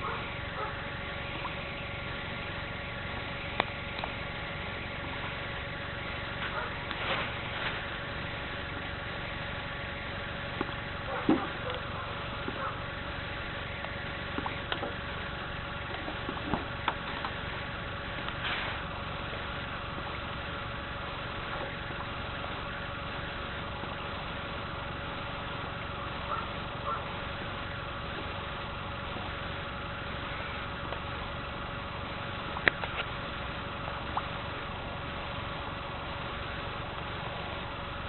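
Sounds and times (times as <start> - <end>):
background hum and hiss: 0.0 - 38.0
faint constant tone: 0.0 - 38.0.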